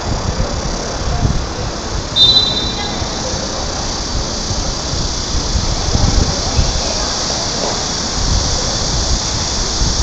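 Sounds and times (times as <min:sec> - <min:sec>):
steady rushing noise: 0:00.0 - 0:10.0
faint voices: 0:00.6 - 0:05.0, 0:05.6 - 0:09.3.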